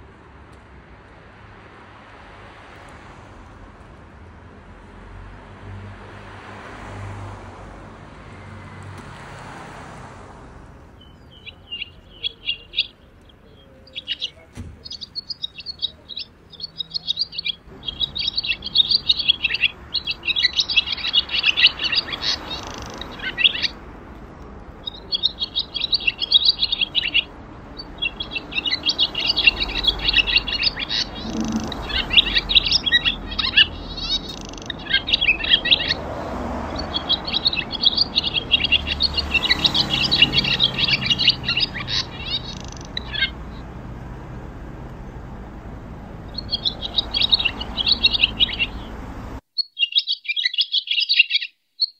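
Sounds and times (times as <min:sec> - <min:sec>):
faint street noise: 0:00.0 - 0:51.9
songbirds chirping: 0:00.0 - 0:51.9.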